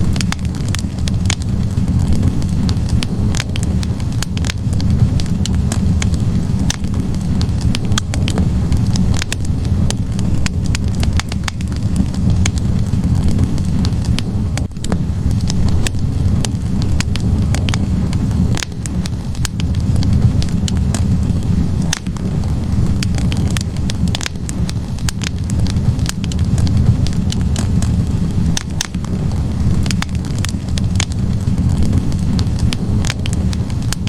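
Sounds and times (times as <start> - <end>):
logs crackling and popping: 0.0 - 34.0
low rumble of flames: 0.0 - 34.0.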